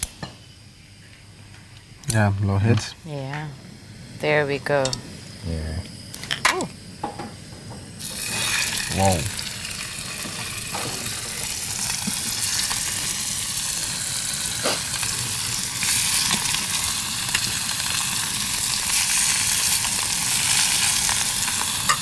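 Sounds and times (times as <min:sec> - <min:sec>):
fish steaks sizzling in oil: 0:03.8 - 0:22.0.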